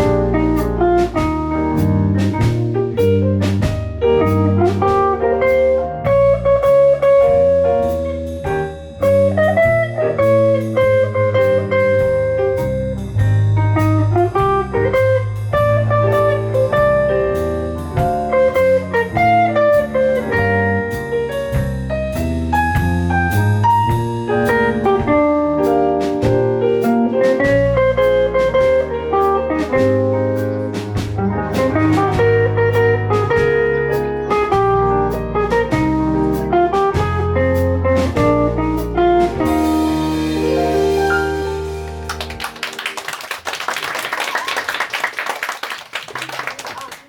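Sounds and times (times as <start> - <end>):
guitar: 0.0 - 43.2
jazz band playing: 0.0 - 44.6.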